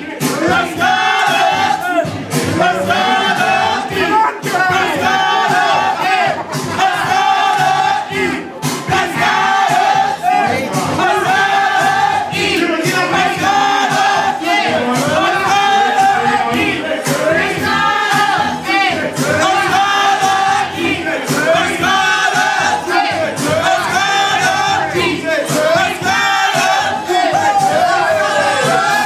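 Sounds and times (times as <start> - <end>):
crowd voices: 0.0 - 29.0
music with repeating sung phrase: 0.0 - 29.0.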